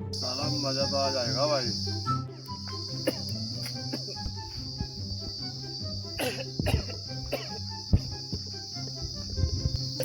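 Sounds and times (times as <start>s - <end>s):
insects trilling: 0.0s - 10.0s
low background tones: 0.0s - 10.0s.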